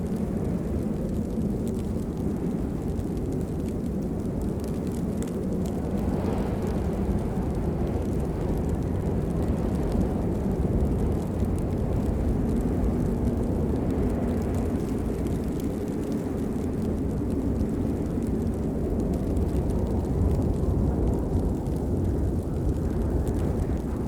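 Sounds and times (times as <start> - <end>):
raindrop ticks: 0.0 - 24.0
steady rain rushing: 0.0 - 24.0.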